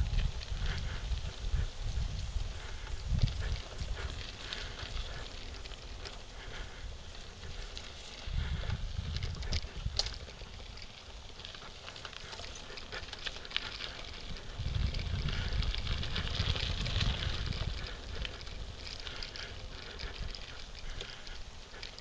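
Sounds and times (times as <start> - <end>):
bike clicks and rattles: 0.0 - 22.0
wind rumble on microphone: 0.0 - 22.0.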